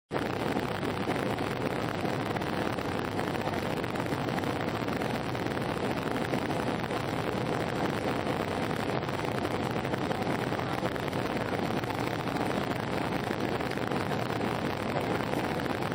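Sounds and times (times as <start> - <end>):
airliner cabin noise: 0.1 - 15.9.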